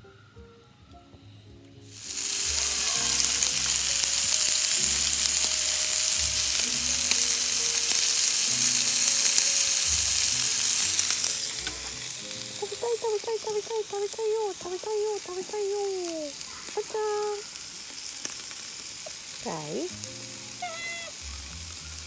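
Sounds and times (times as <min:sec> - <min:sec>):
steak sizzling on a grill: 0:01.9 - 0:22.0.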